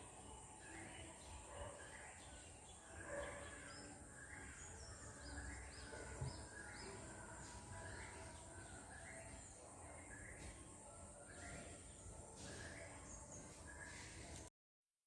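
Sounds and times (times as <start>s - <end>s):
birds chirping: 0.0s - 14.5s
low steady background noise: 0.0s - 14.5s.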